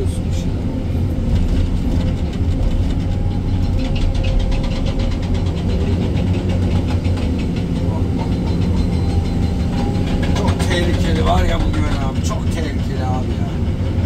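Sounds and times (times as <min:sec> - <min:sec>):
diesel engine running: 0:00.0 - 0:14.0
fast rattle of knocks: 0:01.0 - 0:14.0.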